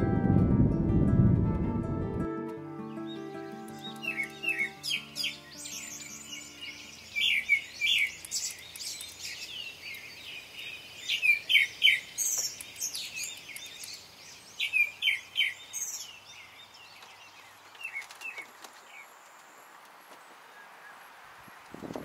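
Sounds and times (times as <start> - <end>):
faint outdoor hiss: 2.6 - 22.0
songbirds chirping and trilling: 2.8 - 22.0.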